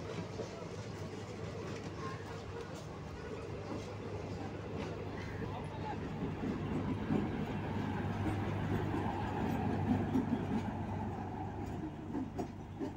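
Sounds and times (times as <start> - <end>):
train rumbling on rails: 0.0 - 12.9.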